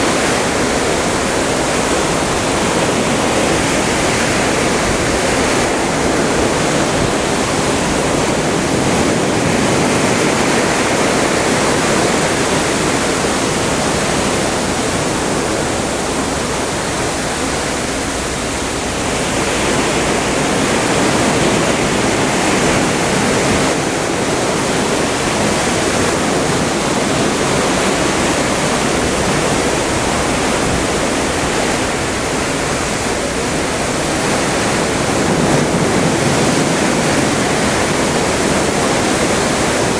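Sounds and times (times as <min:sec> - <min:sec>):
seawater rushing along ship: 0:00.0 - 0:39.9.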